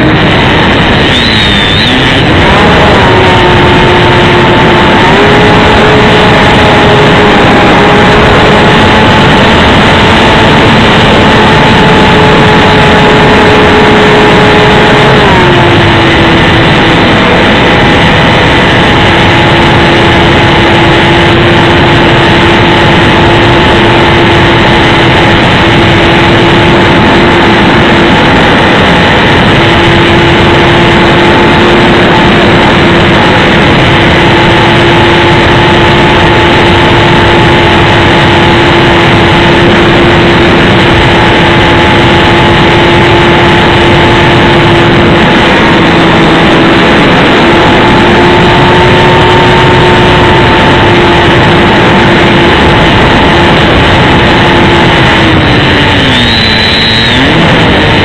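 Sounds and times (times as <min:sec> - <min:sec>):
electric motor and propeller whining: 0:00.0 - 0:58.0
wind rush: 0:00.0 - 0:58.0.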